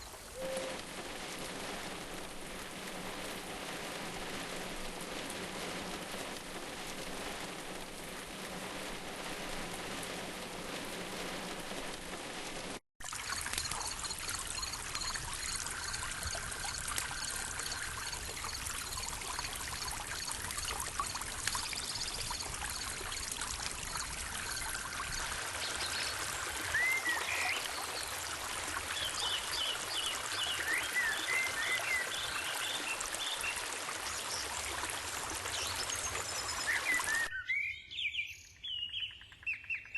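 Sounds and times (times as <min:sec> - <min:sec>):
rain-like hiss: 0:00.0 - 0:37.3
running water: 0:00.0 - 0:37.3.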